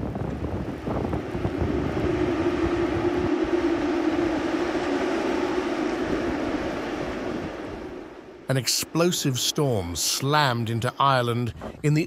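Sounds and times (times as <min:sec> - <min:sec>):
storm wind howling: 0:00.0 - 0:11.8
wind gusts buffeting microphone: 0:00.0 - 0:12.0.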